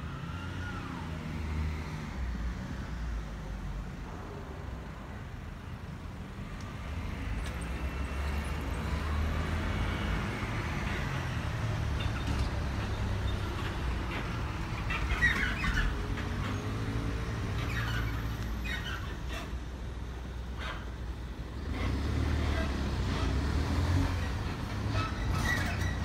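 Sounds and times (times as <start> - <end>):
rumble of passing vehicles: 0.0 - 26.0.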